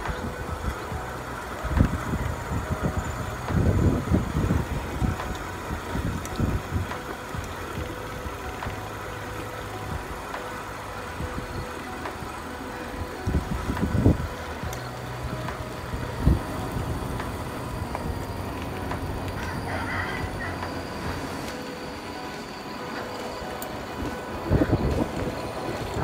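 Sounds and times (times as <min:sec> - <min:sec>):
wind buffeting: 0:00.0 - 0:26.0.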